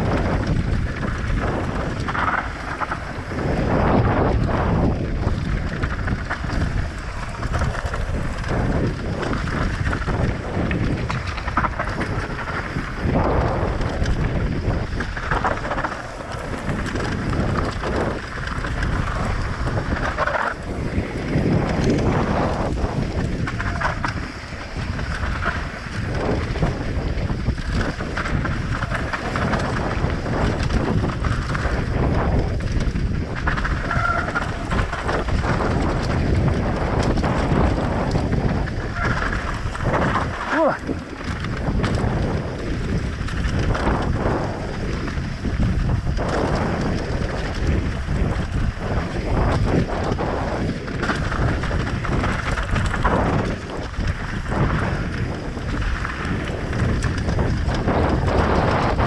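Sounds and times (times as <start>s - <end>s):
bike knocks and rattles: 0.0s - 59.0s
wind buffeting microphone: 0.0s - 59.0s.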